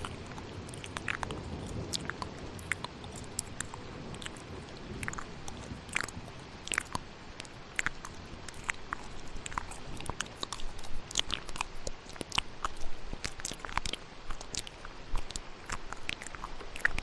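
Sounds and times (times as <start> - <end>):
rain hissing: 0.0 - 17.0
wet mouth clicks and smacks: 0.0 - 17.0.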